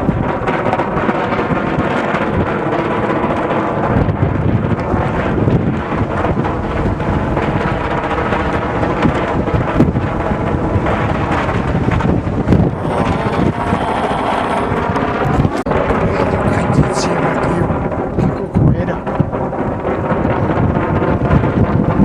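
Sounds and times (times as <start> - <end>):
gusty wind buffeting microphone: 0.0 - 22.0.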